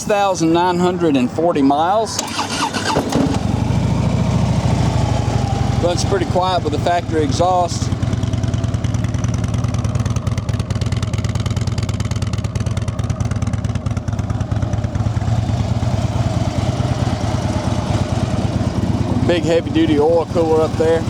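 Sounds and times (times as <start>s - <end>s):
motorcycle engine idling: 2.1s - 21.0s.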